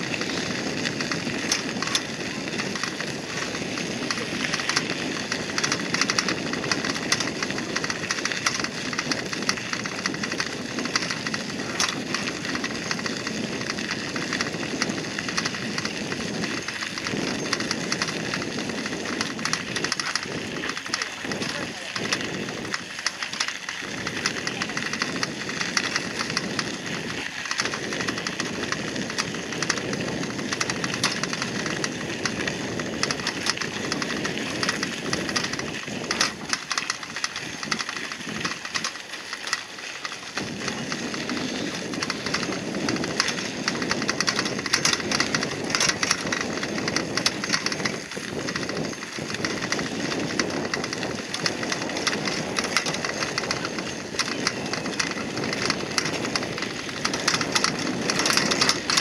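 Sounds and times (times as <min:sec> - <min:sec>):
bicycle tyres crunching on gravel: 0:00.0 - 0:59.0.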